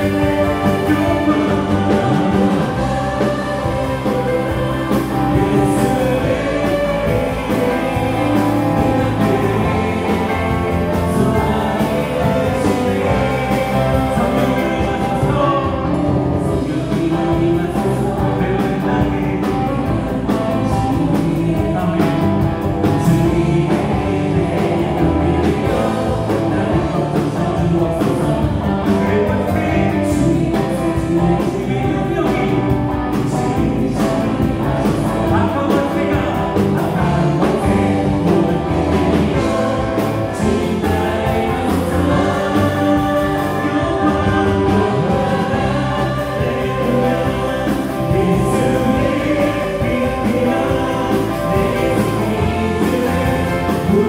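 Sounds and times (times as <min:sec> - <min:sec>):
bass guitar: 0:00.0 - 0:54.0
drum kit: 0:00.0 - 0:54.0
electric guitar: 0:00.0 - 0:54.0
keyboards: 0:00.0 - 0:54.0
voices singing along: 0:00.0 - 0:54.0.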